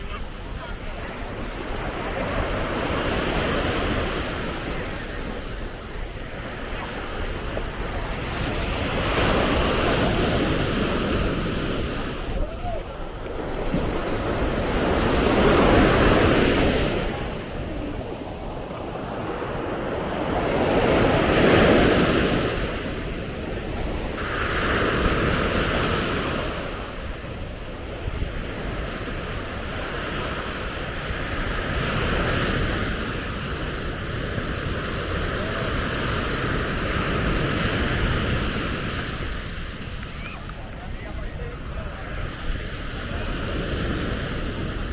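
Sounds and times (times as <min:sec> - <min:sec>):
sea waves breaking: 0:00.0 - 0:44.9.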